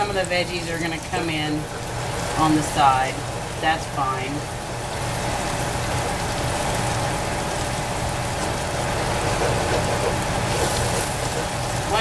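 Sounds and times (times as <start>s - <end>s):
eggs and vegetables sizzling: 0.0s - 12.0s.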